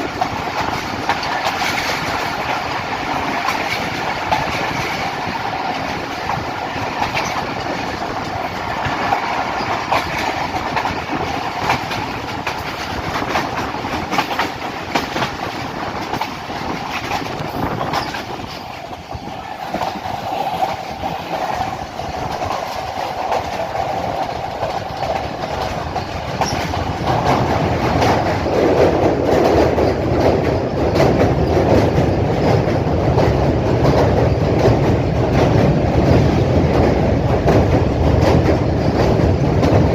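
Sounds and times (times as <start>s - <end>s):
clickety-clack over rail joints: 0.0s - 39.9s
train wheels on rails: 0.0s - 39.9s.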